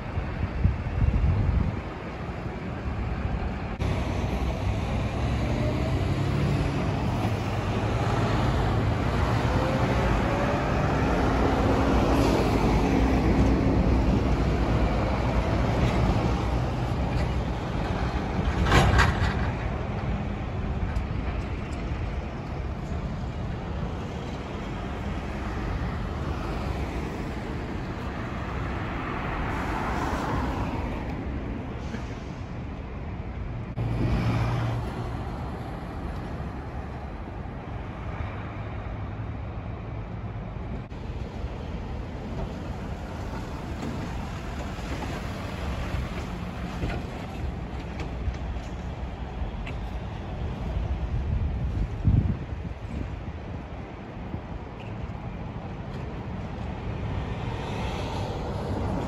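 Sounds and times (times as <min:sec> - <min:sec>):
trucks and cars passing: 0:00.0 - 0:59.0.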